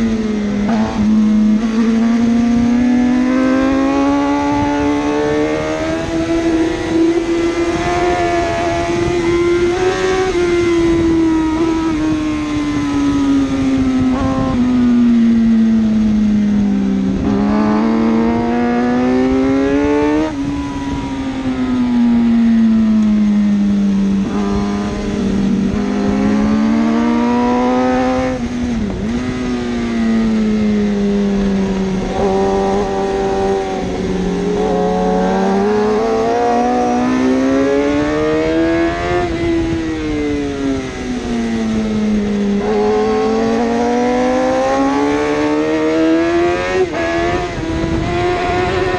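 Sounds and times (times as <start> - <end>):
racing motorcycle engine revving: 0.0 - 48.9.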